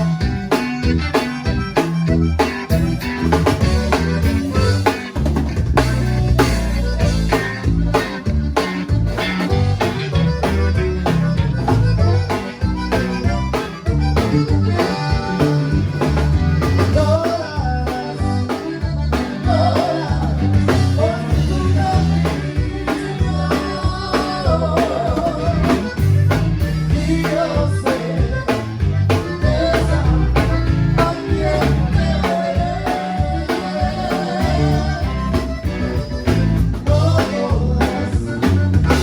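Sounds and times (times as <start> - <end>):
bass and drum kit beat: 0.0 - 39.0
live band playing: 0.0 - 39.0.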